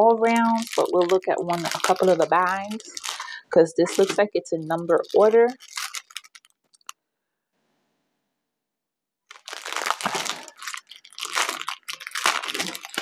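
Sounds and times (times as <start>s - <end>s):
plastic bags crinkling: 0.0s - 6.9s, 9.3s - 13.0s.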